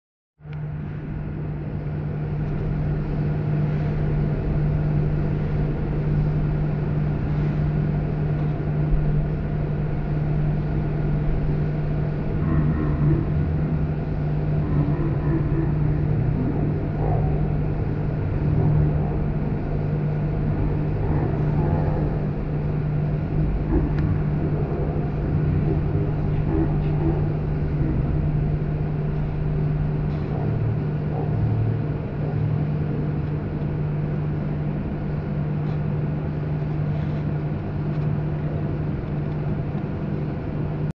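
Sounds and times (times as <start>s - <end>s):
machinery humming and rumbling: 0.4s - 40.9s.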